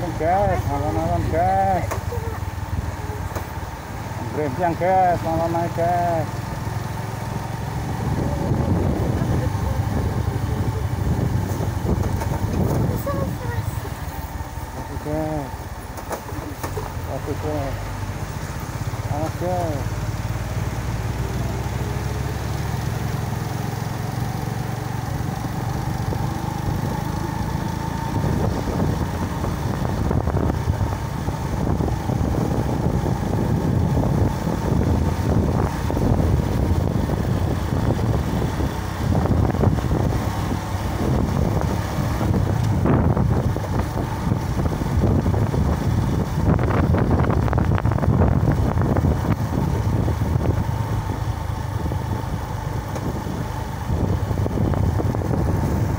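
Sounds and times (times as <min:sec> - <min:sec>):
vehicle engine and road noise: 0:00.0 - 0:55.9.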